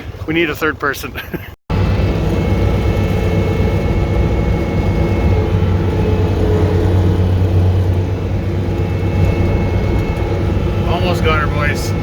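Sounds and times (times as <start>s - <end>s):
truck engine under load: 1.7s - 12.0s.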